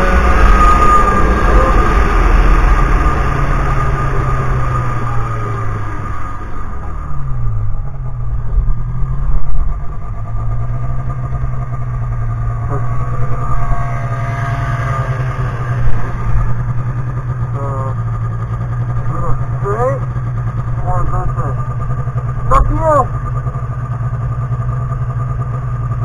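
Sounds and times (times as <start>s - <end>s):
snowmobile engine running: 0.0s - 26.0s.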